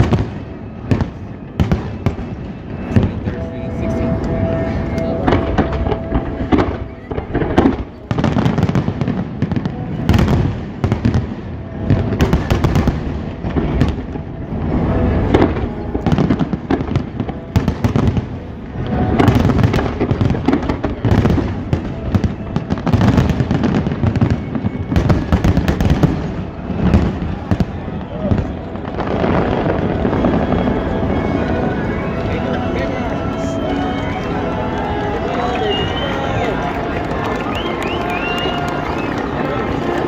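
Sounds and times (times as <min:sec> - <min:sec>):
fireworks booms and crackles: 0:00.0 - 0:40.0.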